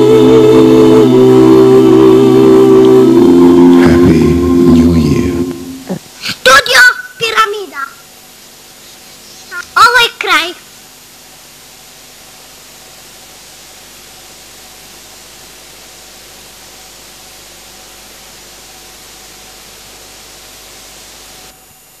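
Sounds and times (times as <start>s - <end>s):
camcorder hiss: 0.0s - 22.0s.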